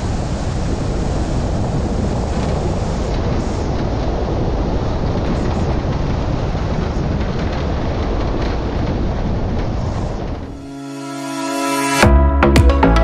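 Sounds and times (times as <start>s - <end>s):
wind rushing with deep rumble: 0.0s - 10.7s.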